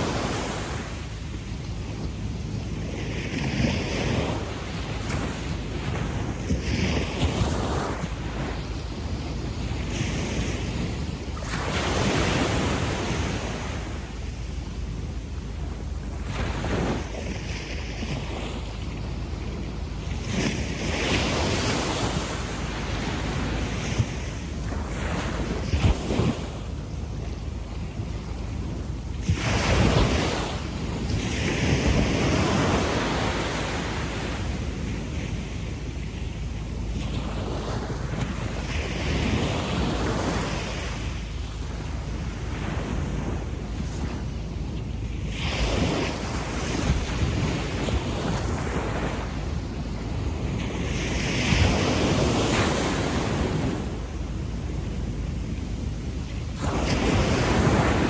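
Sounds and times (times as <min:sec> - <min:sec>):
sea waves on a sandy beach: 0:00.0 - 0:58.0
wind buffeting microphone: 0:00.0 - 0:58.0.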